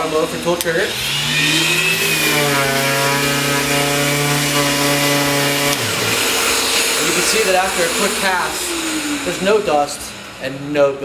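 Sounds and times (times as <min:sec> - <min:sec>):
orbital sander sanding: 0:00.0 - 0:10.8
dust extractor whining: 0:00.0 - 0:11.0.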